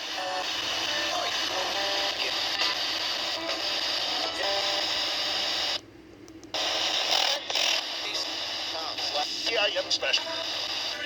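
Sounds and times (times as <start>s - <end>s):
radio static hiss: 0.0s - 5.8s, 6.6s - 11.0s.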